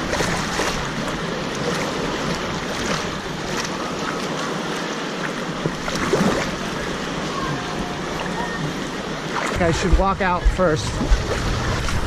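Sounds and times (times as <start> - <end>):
water washing and splashing: 0.0 - 12.0.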